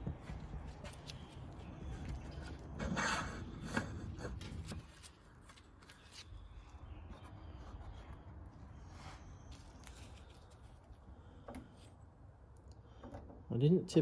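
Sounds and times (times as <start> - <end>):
rustling handling noises: 0.0 - 12.0.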